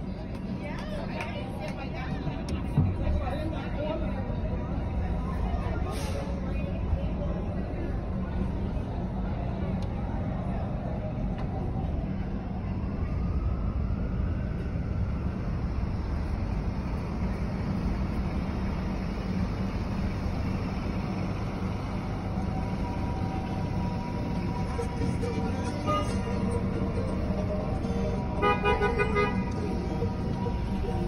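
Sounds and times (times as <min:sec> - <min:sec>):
city traffic rumble: 0:00.0 - 0:31.0.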